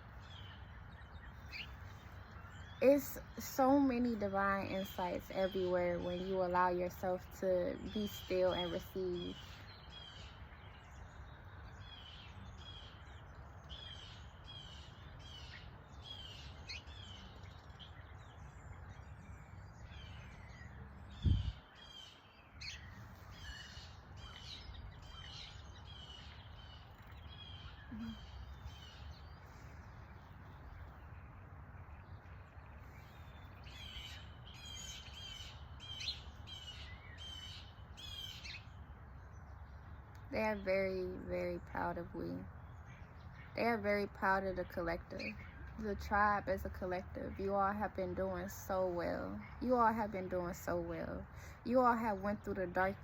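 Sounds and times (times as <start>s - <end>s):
low outdoor background: 0.0s - 53.0s
wild birds chirping: 0.0s - 53.0s.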